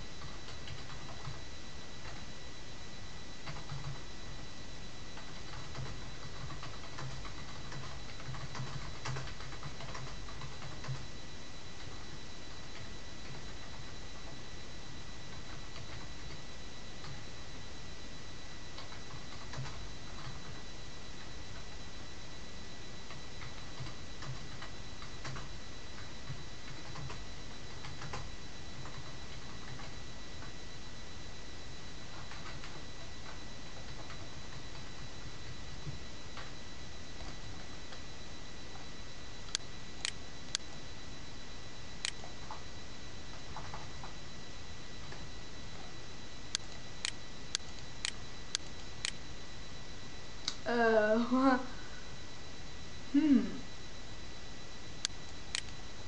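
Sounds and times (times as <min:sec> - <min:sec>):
faint high whine: 0:00.0 - 0:56.0.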